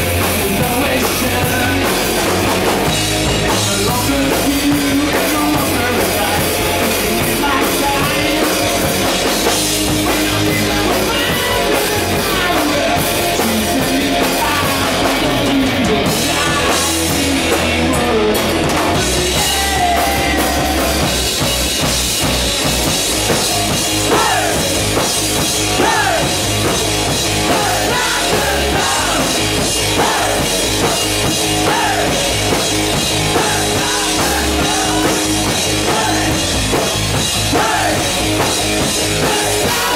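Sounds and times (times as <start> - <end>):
man singing: 0.0 - 21.4, 24.0 - 26.5, 27.4 - 39.9
hard rock band playing: 0.0 - 39.9.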